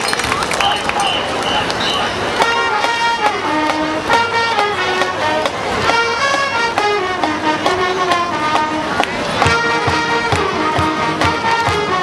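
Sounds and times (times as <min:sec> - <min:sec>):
brass melody: 0:01.1 - 0:12.0
steady drum beat: 0:02.4 - 0:12.0.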